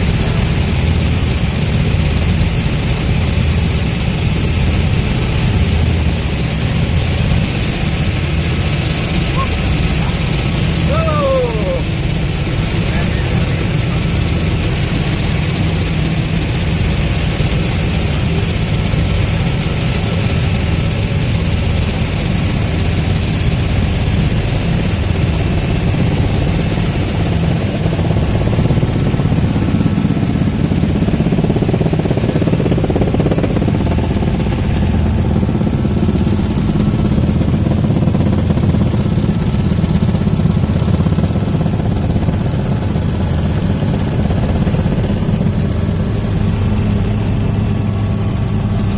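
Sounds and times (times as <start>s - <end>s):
helicopter engine and rotor drone: 0.0s - 48.9s.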